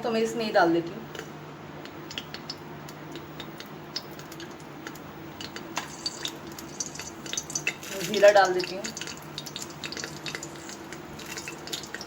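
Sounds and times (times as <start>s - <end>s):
seeds crackling in hot oil: 1.8s - 12.0s.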